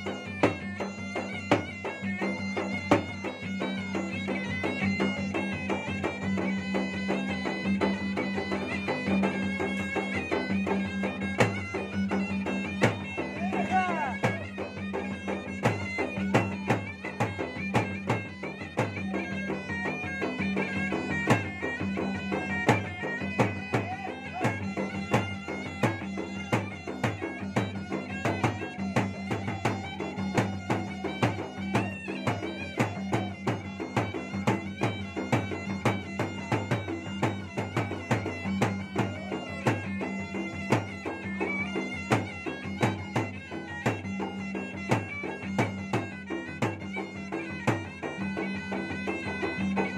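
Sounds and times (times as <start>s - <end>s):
reedy pipe melody: 0.0s - 49.9s.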